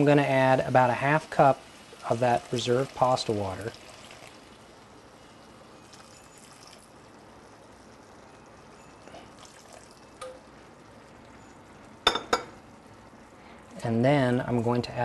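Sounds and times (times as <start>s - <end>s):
water trickling into skillet: 0.0s - 15.0s.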